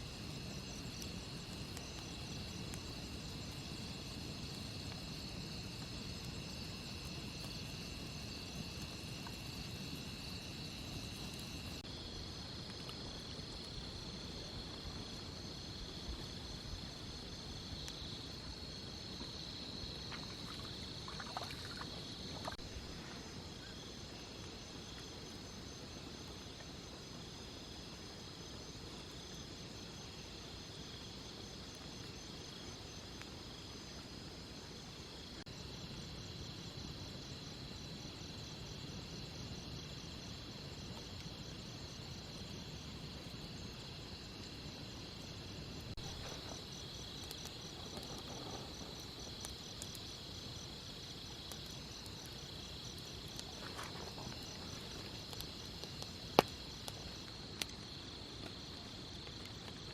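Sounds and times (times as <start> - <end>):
insects trilling: 0.0 - 26.6, 27.2 - 59.9.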